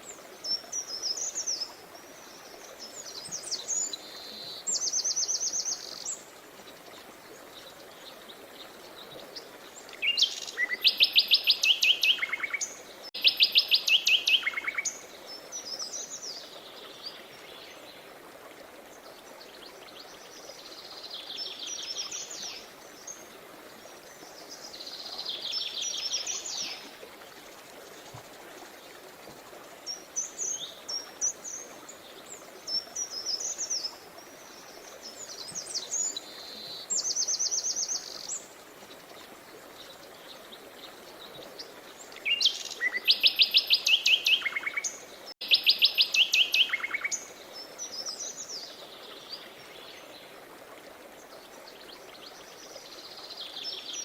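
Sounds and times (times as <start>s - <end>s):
songbirds singing: 0.0s - 18.1s, 19.0s - 50.4s.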